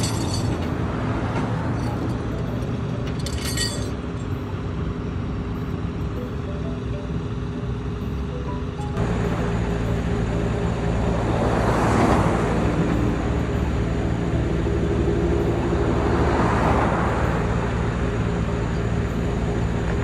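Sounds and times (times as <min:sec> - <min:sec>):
steady engine hum: 0:00.0 - 0:20.0
vehicles passing: 0:00.0 - 0:20.0.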